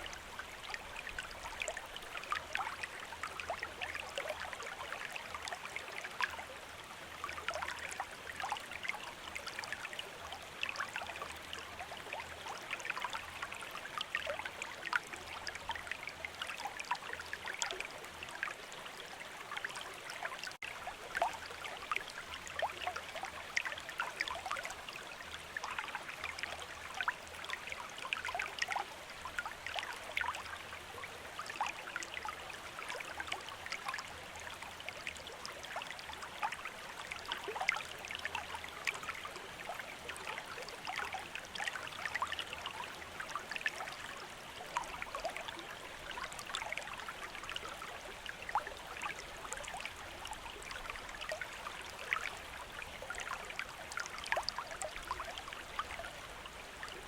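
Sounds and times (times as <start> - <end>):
stream of water splashing: 0.0 - 57.0.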